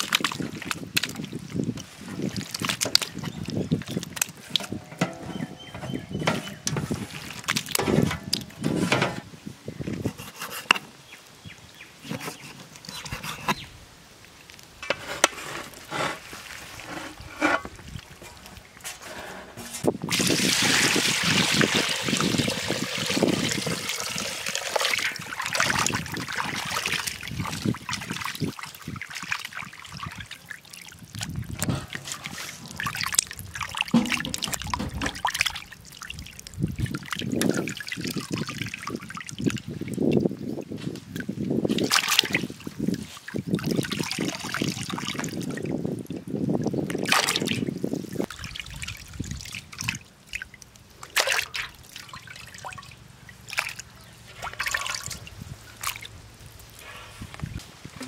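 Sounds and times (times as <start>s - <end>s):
water sloshing and splashing: 0.0s - 11.0s, 12.0s - 13.6s, 14.2s - 58.0s.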